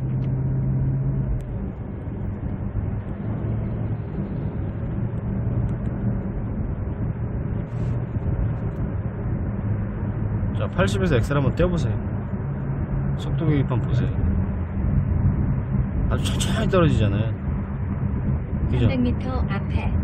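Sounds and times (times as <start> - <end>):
low engine hum: 0.0 - 20.0
road and tyre noise: 0.0 - 20.0.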